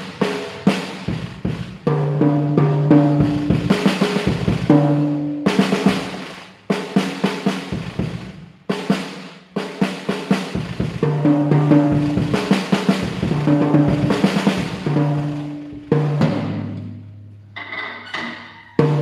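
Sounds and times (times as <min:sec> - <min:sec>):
drum fills on toms and snare: 0:00.0 - 0:17.4, 0:18.4 - 0:19.0.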